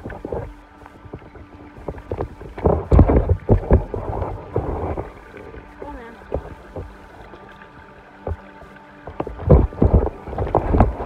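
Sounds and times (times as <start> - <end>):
wind buffeting microphone: 0.0 - 7.0, 9.1 - 11.0.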